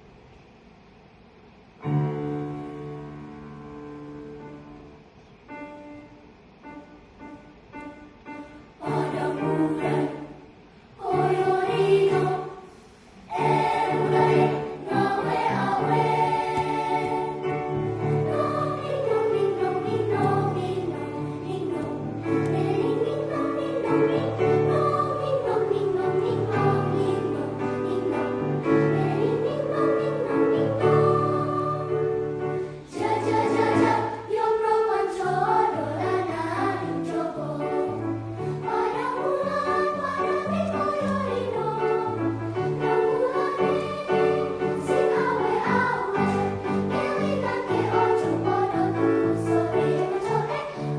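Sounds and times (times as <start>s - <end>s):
choir singing: 8.8s - 50.9s.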